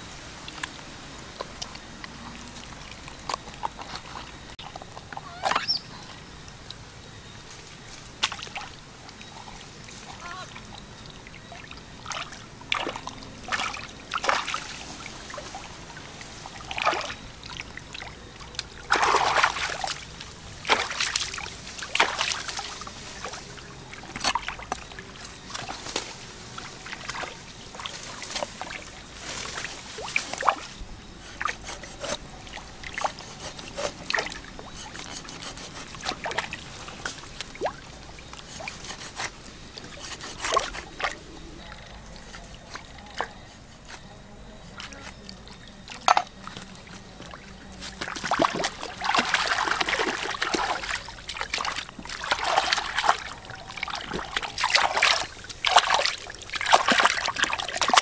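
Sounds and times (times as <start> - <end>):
water splashing and trickling: 0.0 - 58.0.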